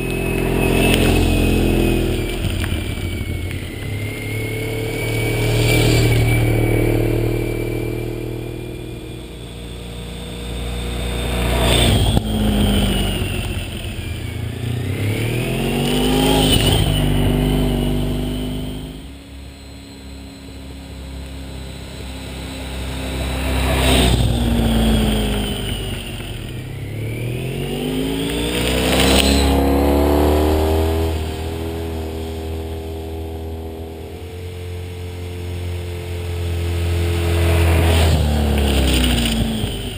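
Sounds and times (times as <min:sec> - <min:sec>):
motorcycle passing by: 0:00.0 - 0:39.9.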